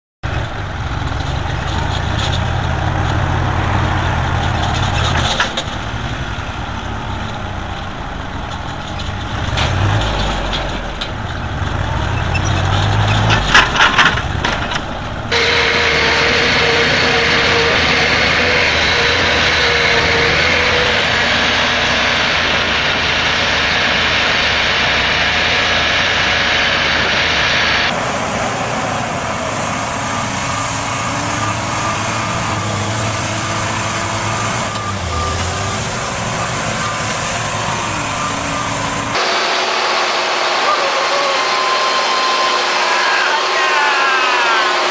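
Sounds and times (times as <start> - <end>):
heavy diesel engines under load: 0.2 - 44.9.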